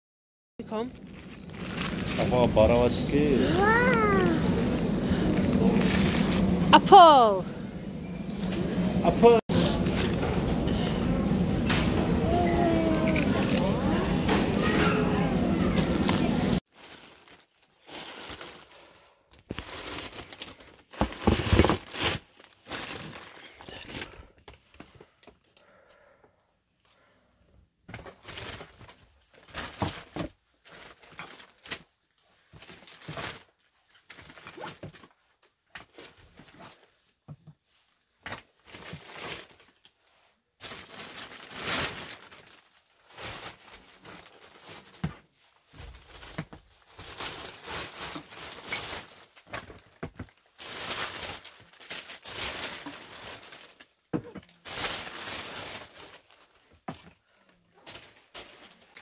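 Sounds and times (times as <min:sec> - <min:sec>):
plastic bags rustling: 0:00.7 - 0:07.4, 0:09.6 - 0:24.3, 0:28.0 - 0:36.8, 0:37.9 - 0:59.0.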